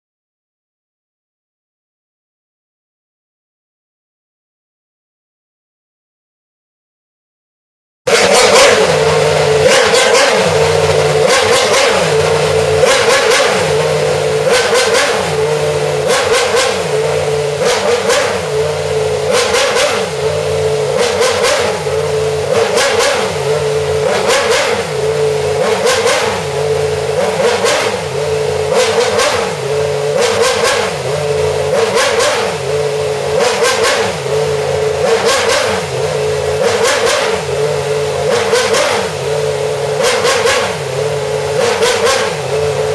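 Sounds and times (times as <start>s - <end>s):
race car engine revving: 8.1s - 42.9s.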